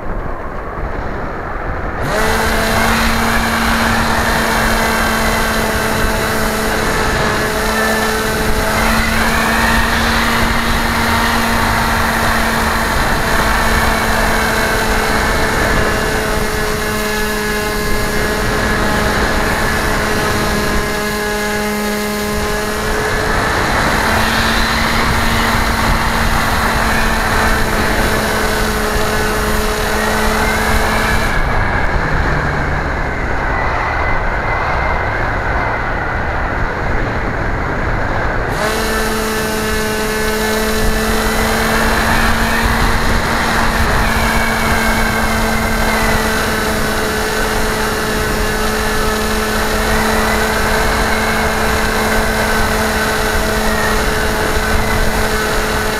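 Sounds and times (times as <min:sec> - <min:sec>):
model aircraft motor buzzing: 0:01.8 - 0:55.9.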